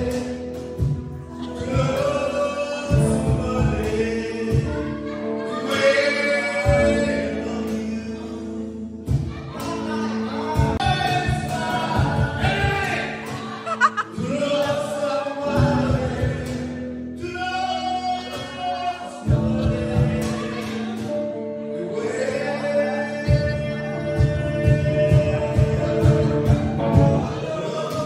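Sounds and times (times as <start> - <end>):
electric guitar: 0.0 - 28.0
man singing into a microphone: 0.0 - 28.0.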